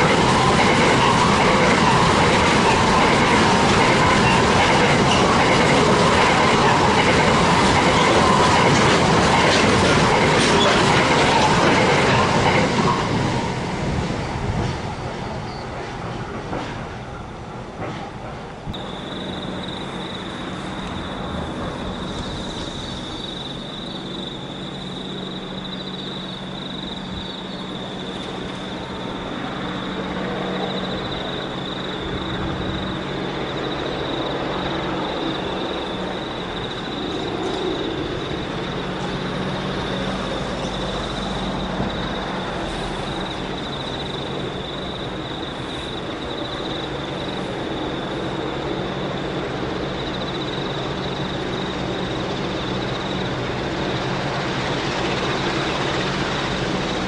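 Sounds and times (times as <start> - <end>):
train wheels clattering: 0.0 - 57.0.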